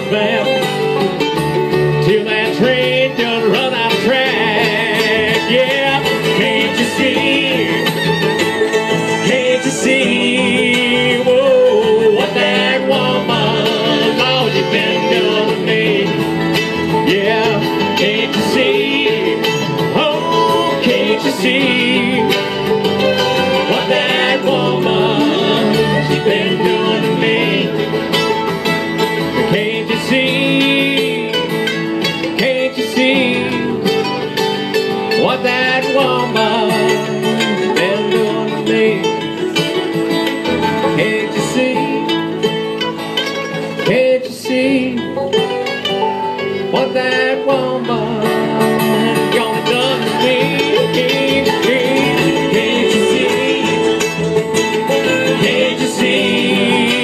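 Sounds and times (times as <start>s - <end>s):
acoustic guitar: 0.0s - 57.0s
banjo: 0.0s - 57.0s
fiddle: 0.0s - 57.0s
mandolin: 0.0s - 57.0s
upright bass: 0.0s - 57.0s.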